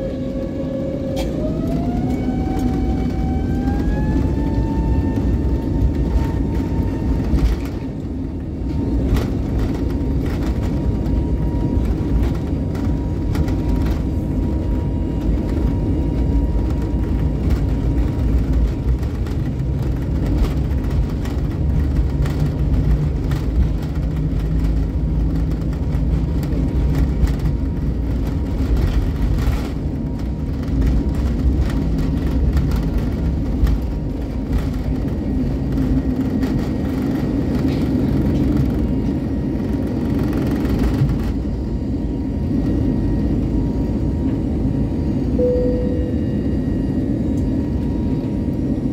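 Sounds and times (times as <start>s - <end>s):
jet engines at high power: 0.0s - 48.9s
wheels rumbling on runway: 0.0s - 48.9s.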